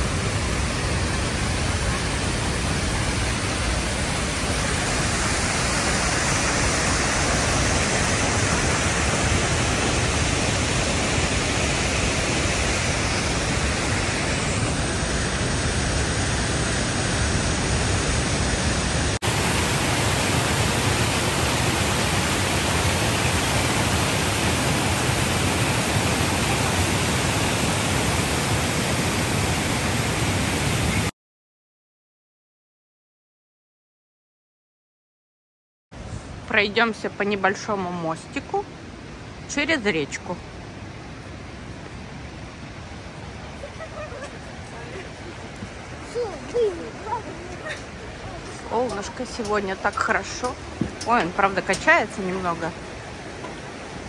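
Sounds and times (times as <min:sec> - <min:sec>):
waterfall rushing: 0:00.0 - 0:31.1, 0:36.0 - 0:54.0.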